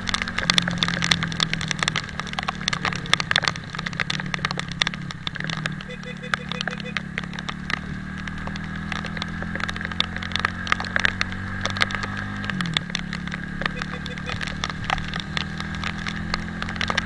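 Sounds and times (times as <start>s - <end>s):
motorcycle engine running: 0.0s - 17.0s
raindrops clicking on microphone: 0.0s - 17.0s.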